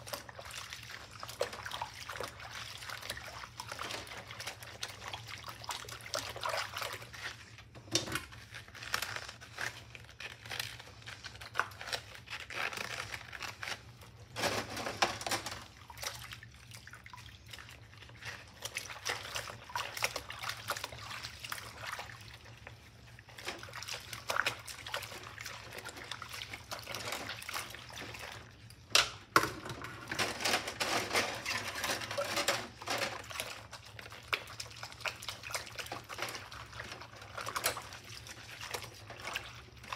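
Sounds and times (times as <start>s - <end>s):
water sloshing in sink: 0.0s - 39.9s.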